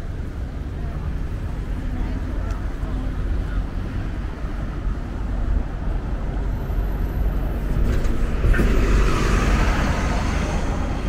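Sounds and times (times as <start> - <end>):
bus engine and tyre noise: 0.0 - 11.0
street traffic rumble: 0.0 - 11.0.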